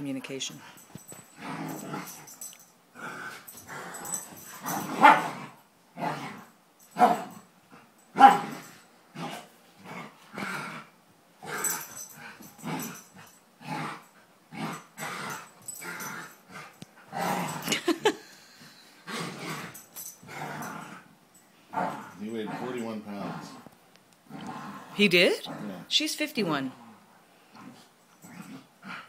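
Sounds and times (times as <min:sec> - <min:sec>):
dogs barking and growling: 0:00.8 - 0:18.2, 0:19.0 - 0:25.9.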